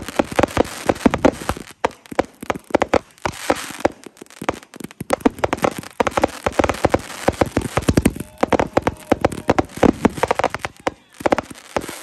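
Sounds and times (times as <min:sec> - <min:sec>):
fireworks bangs and crackles: 0:00.0 - 0:12.0
fireworks hissing: 0:00.0 - 0:12.0.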